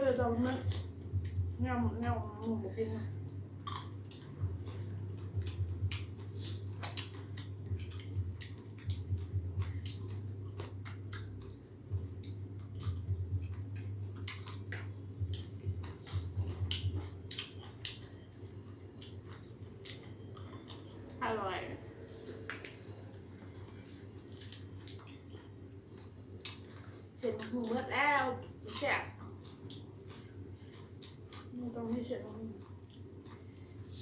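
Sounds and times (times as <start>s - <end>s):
steady low hum: 0.0s - 34.0s
person chewing food: 0.4s - 1.6s, 3.1s - 21.2s, 22.0s - 27.6s, 28.5s - 34.0s.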